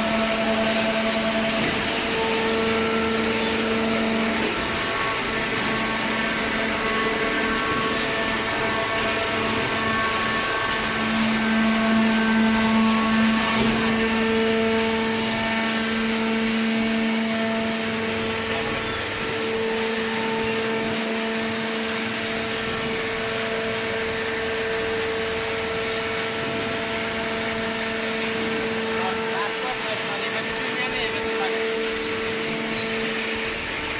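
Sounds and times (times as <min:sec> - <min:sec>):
hydraulic motor and pump humming: 0:00.0 - 0:33.9.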